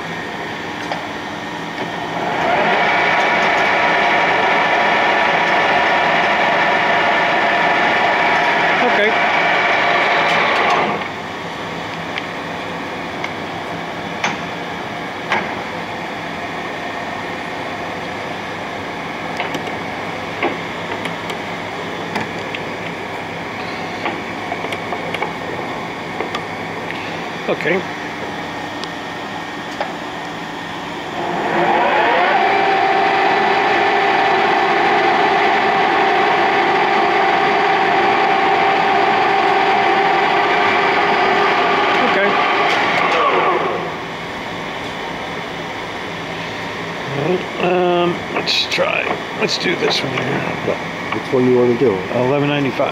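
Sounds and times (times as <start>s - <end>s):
lathe motor and gearing hum: 0.0s - 52.9s.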